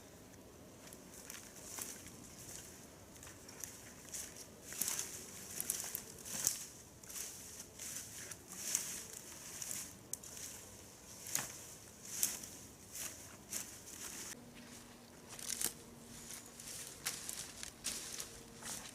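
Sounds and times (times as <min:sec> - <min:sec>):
footsteps crunching on forest path: 0:00.8 - 0:18.9.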